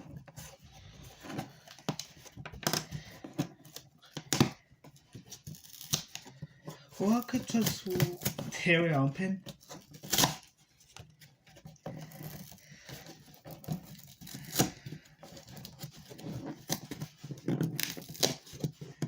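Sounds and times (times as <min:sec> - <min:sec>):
cardboard scraping and rustling: 0:00.0 - 0:08.8, 0:09.4 - 0:19.0
cardboard ripping: 0:00.0 - 0:10.9, 0:11.7 - 0:19.0.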